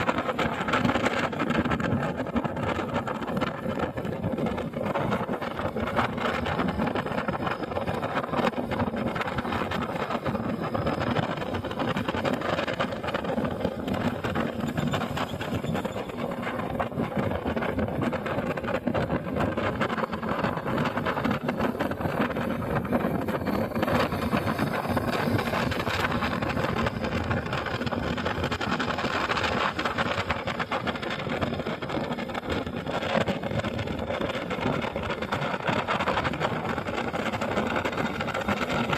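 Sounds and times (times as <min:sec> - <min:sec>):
road noise: 0:00.0 - 0:38.9
wind noise: 0:00.0 - 0:38.9.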